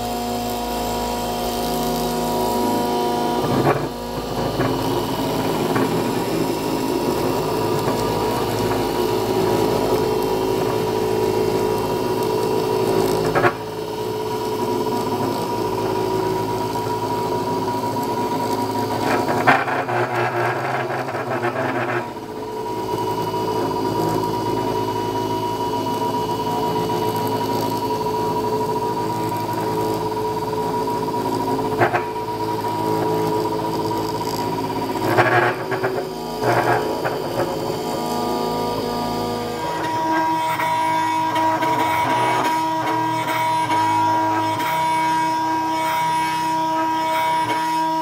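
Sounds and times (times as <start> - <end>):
rough cutting noise: 0.0 - 47.6
cnc router motors humming and whining: 0.0 - 48.0.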